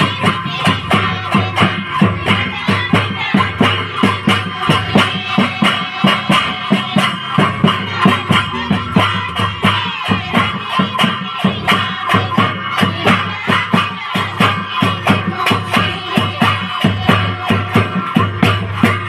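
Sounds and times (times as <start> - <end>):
hand drums beating fast: 0.0 - 19.0.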